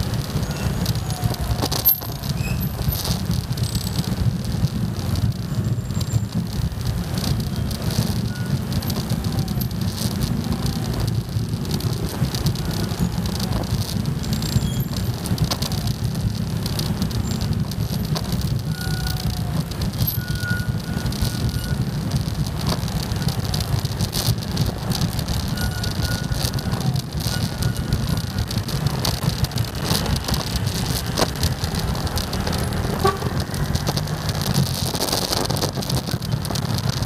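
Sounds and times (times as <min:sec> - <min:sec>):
motorcycle engines rumbling: 0:00.0 - 0:37.0.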